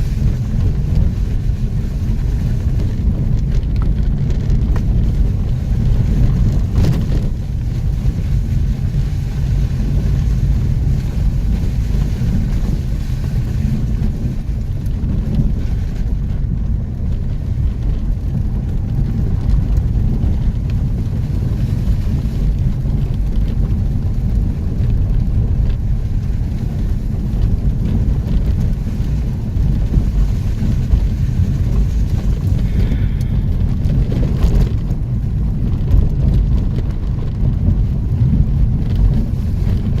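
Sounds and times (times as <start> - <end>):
vehicle engine rumble: 0.0 - 40.0
wind noise on microphone: 0.0 - 40.0.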